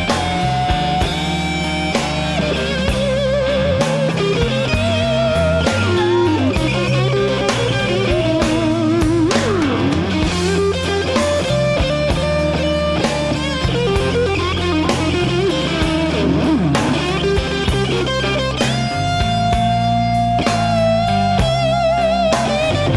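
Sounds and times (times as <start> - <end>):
bass guitar: 0.0 - 22.9
drums: 0.0 - 22.9
electric guitar solo: 0.0 - 22.9.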